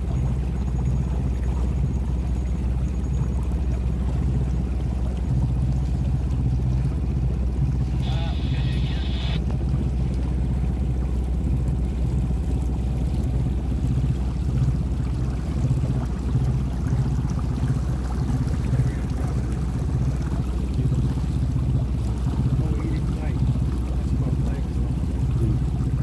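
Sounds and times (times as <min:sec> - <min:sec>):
boat engine running: 0:00.0 - 0:26.0
water washing along hull: 0:00.0 - 0:26.0.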